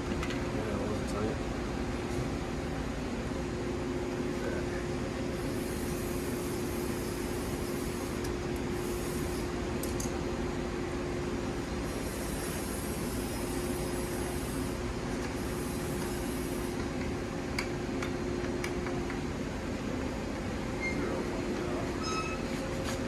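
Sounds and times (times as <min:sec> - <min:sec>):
mechanical hum and rumble: 0:00.0 - 0:23.0.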